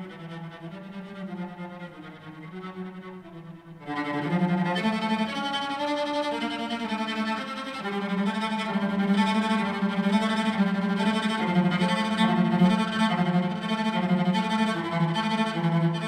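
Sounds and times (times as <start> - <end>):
bowed string music: 0.0 - 16.0.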